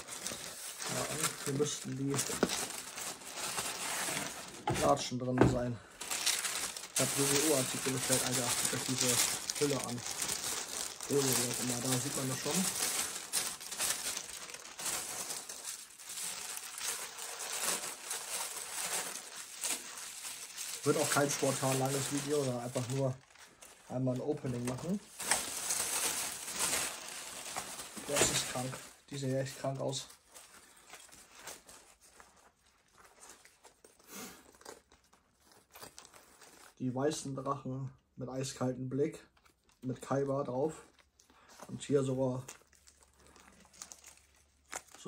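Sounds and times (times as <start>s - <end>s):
packaging rustling and crinkling: 0.0s - 36.8s, 39.3s - 45.0s.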